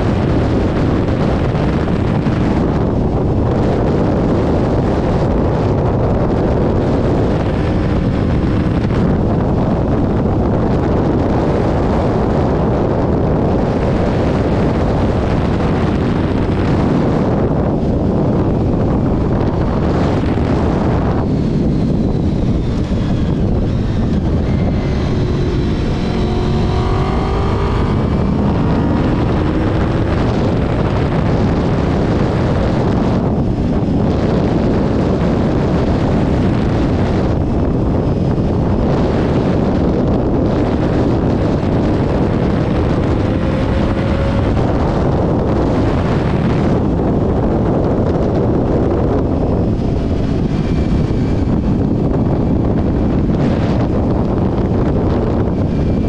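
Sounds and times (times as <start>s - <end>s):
motorcycle engine running: 0.0s - 56.0s
wind buffeting the microphone: 0.0s - 56.0s.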